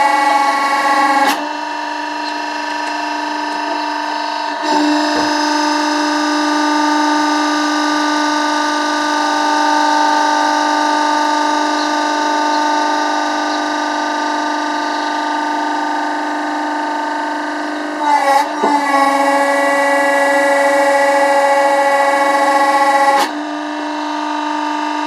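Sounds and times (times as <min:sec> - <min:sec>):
log splitter droning: 0:00.0 - 0:25.0.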